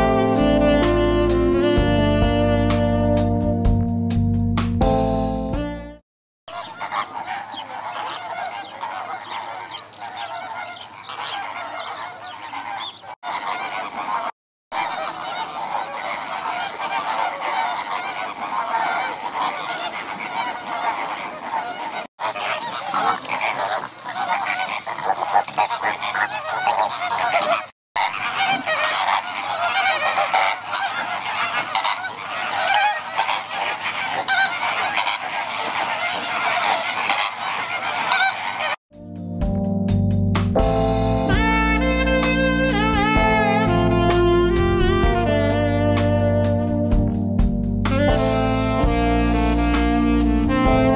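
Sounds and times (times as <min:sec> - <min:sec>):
flamingos honking and gabbling: 0:06.5 - 0:38.8, 0:41.3 - 0:46.9, 0:47.9 - 0:50.9.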